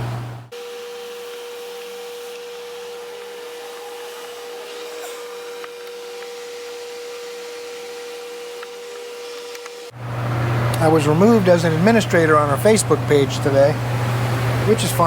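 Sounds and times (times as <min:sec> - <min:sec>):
steady machine whine: 0:00.0 - 0:15.0.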